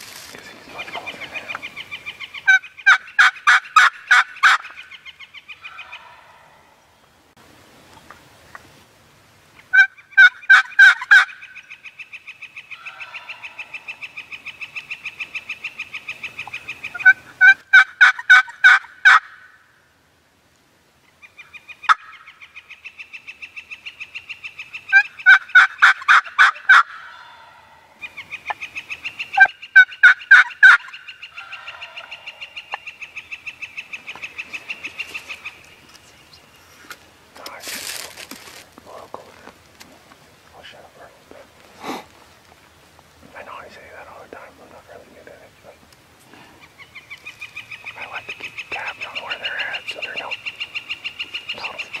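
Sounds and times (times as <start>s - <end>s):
turkey calls: 0.6s - 6.8s, 9.6s - 19.6s, 21.0s - 39.2s, 43.4s - 52.0s.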